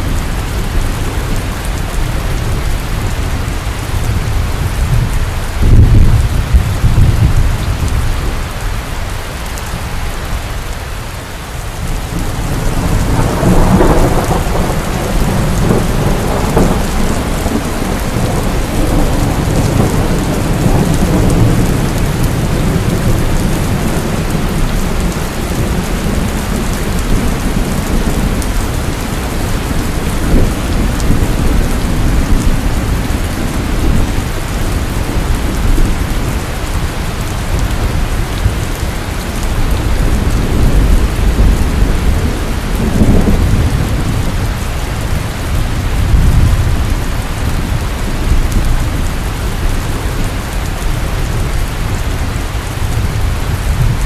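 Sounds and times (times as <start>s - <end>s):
thunder rumbling: 0.0s - 8.9s, 11.6s - 54.0s
heavy rain pouring: 0.0s - 54.0s.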